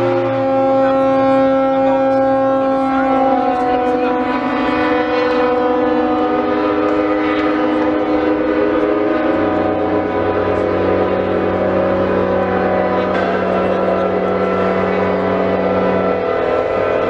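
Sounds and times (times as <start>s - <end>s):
deep horn: 0.0s - 17.0s
ships' horns blasting: 0.0s - 17.0s.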